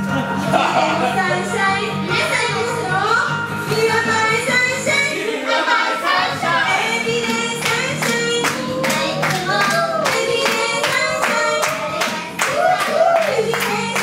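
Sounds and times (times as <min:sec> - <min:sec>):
women singing pop song: 0:01.0 - 0:14.0.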